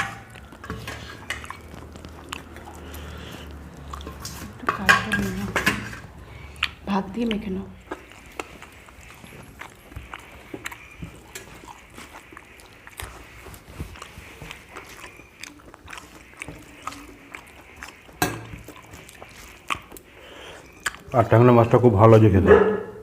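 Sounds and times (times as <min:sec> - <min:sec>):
fingers mixing rice: 0:00.0 - 0:21.7
wet chewing sounds: 0:00.0 - 0:22.0.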